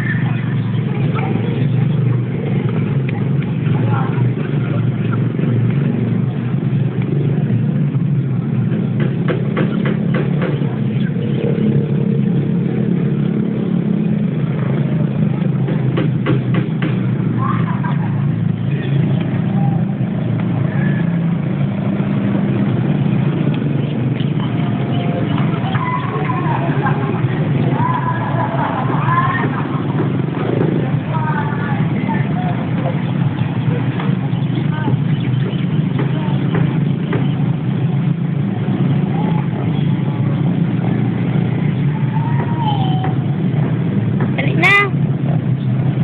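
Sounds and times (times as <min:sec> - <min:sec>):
vehicle engine low drone: 0:00.0 - 0:46.0.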